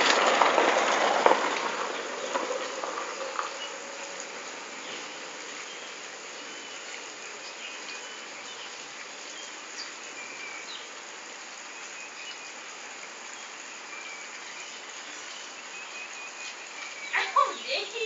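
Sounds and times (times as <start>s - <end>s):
even outdoor hiss: 0.0s - 18.0s.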